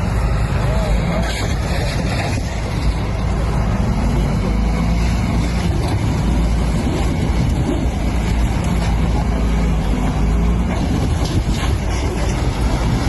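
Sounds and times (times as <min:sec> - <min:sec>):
moving vehicle rumbling: 0:00.0 - 0:13.0.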